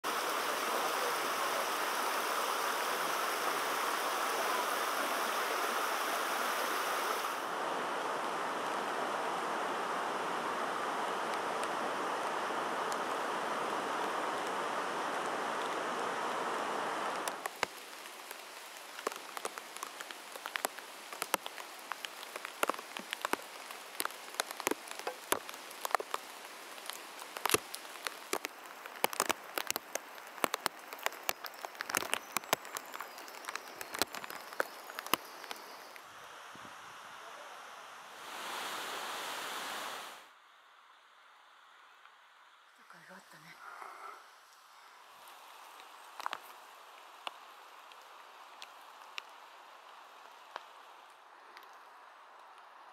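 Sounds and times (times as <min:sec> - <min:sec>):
steady rain hiss: 0:00.0 - 0:52.9
raindrops dripping on leaves: 0:00.1 - 0:36.1, 0:44.4 - 0:52.9.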